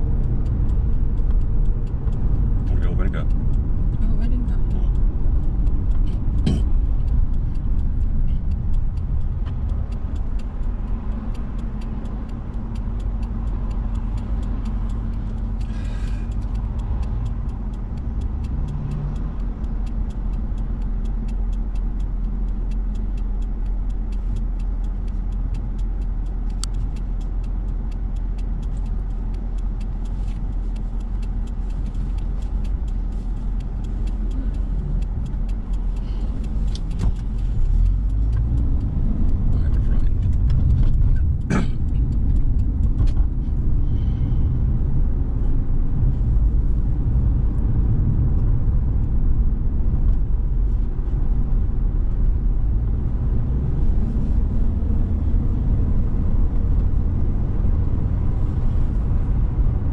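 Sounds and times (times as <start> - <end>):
car cabin rumble: 0.0 - 59.9
faint light ticks: 0.0 - 59.9.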